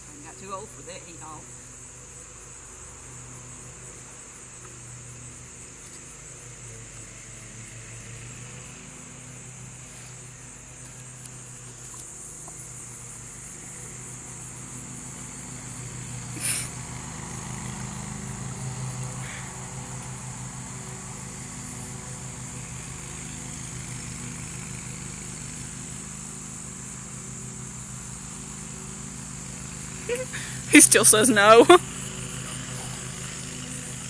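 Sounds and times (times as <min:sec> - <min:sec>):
high insect drone: 0:00.0 - 0:34.0
low engine hum: 0:00.0 - 0:34.0.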